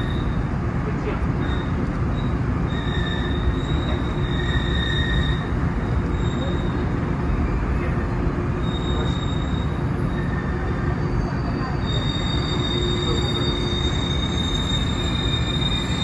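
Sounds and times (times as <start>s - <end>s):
high brake squeal: 0.0s - 0.5s, 1.4s - 16.0s
train running rumble: 0.0s - 16.0s.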